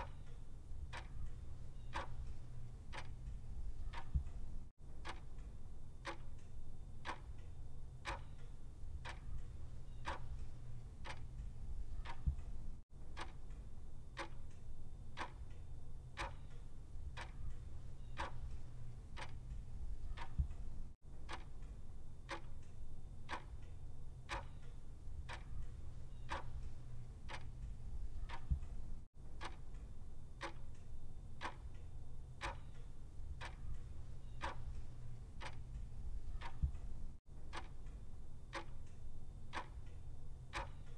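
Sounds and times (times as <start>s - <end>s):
low steady rumble: 0.0s - 8.0s, 8.6s - 16.1s, 16.8s - 24.2s, 24.9s - 32.4s, 33.0s - 40.5s
clock ticking: 0.0s - 15.6s, 16.2s - 31.8s, 32.4s - 40.9s.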